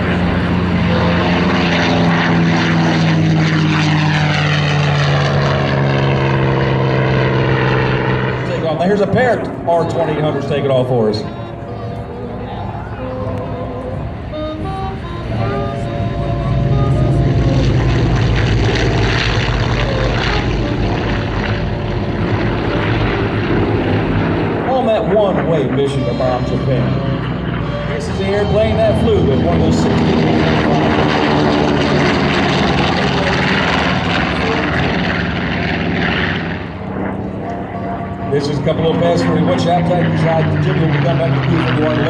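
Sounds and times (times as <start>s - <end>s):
propeller plane engine drone: 0.0s - 42.0s.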